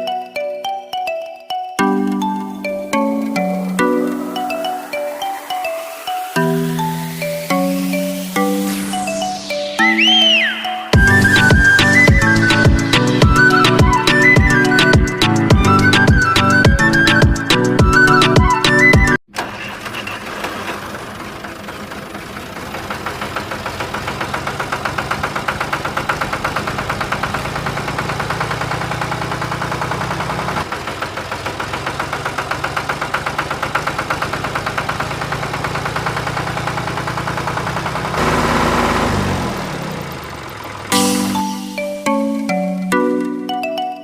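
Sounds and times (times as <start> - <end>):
engine idling with rhythmic chug: 1.8 - 9.7, 10.8 - 43.3.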